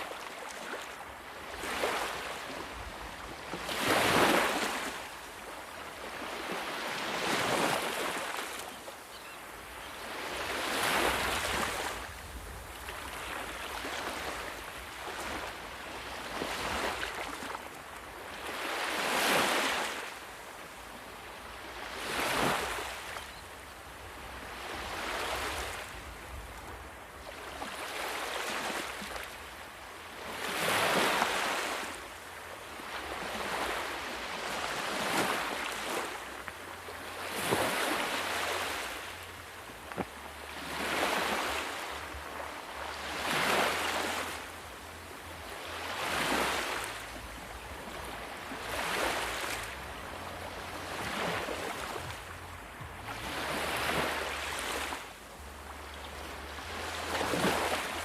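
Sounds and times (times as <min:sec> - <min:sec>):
sea waves breaking: 0:00.0 - 0:23.4, 0:24.1 - 0:58.0.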